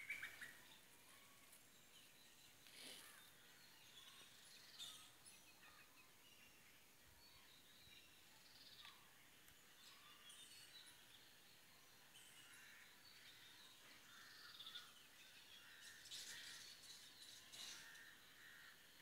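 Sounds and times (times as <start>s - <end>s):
distant birds chirping: 0.0s - 19.0s
faint outdoor hiss: 0.0s - 19.0s.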